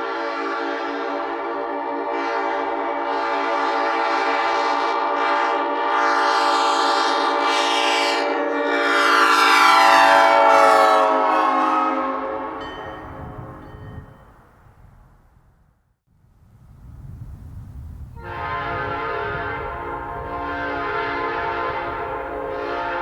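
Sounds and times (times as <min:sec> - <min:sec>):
locomotive air horn blast: 0:00.0 - 0:14.1, 0:18.2 - 0:23.0.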